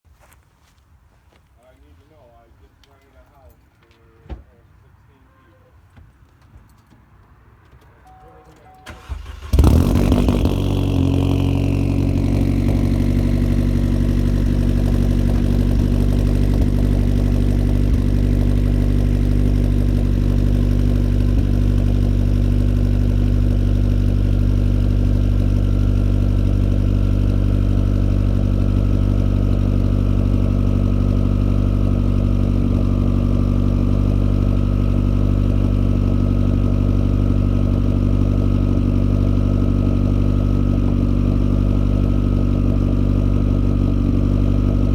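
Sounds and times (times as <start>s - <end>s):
engine idling with whine: 8.0s - 44.9s.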